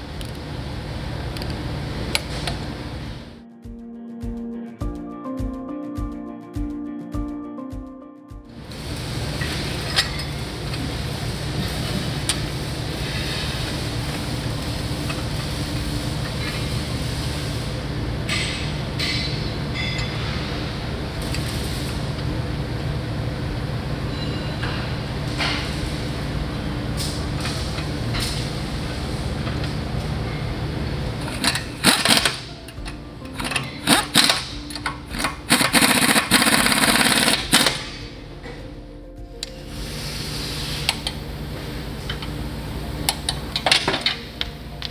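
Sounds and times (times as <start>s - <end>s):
low shop hum: 0.0s - 3.5s, 8.5s - 44.9s.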